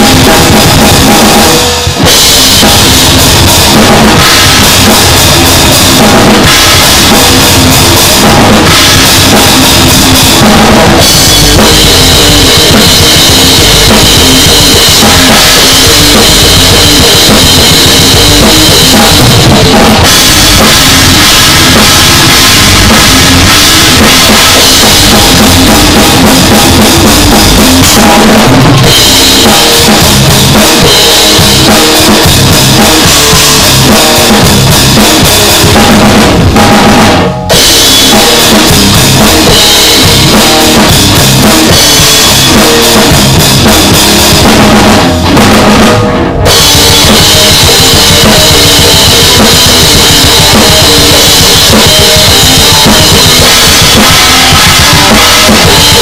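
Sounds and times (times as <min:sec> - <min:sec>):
drum kit playing: 0:00.0 - 0:56.0.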